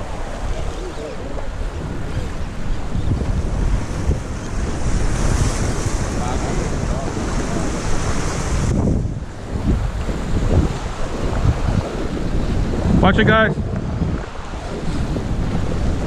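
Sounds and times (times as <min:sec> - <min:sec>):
waves washing against rocks: 0:00.0 - 0:16.0
wind buffeting microphone: 0:00.0 - 0:16.0.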